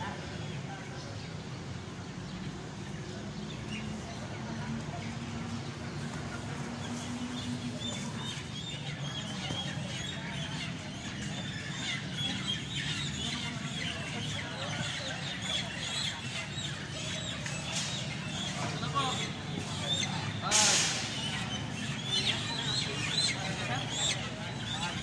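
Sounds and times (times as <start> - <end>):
chickens calling: 0.0 - 25.0.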